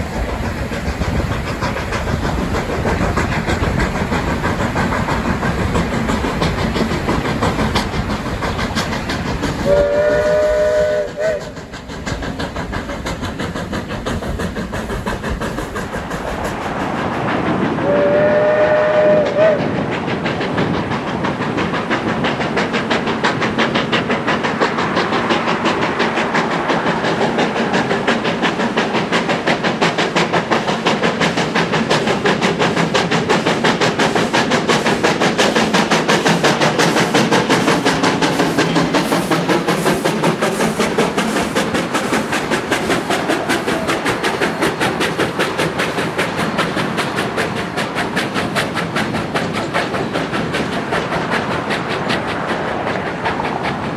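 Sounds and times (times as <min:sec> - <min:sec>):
steam locomotive chuffing: 0:00.0 - 0:53.9.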